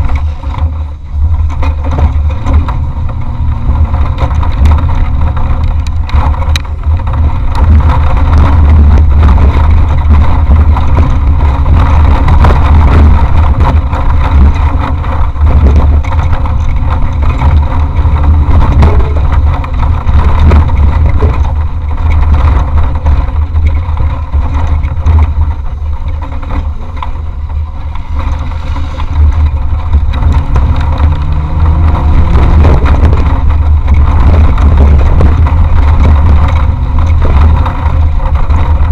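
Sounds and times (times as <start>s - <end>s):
knocks and rattles from bumps: 0.0s - 38.9s
loud engine rumble: 0.0s - 38.9s.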